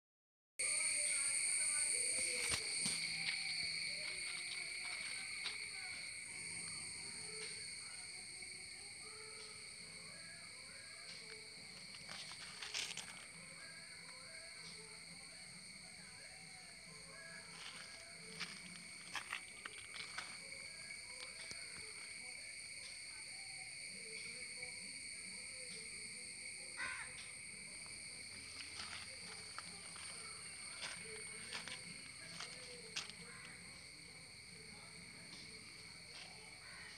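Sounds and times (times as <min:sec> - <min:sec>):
high-pitched insect drone: 0:00.6 - 0:36.9.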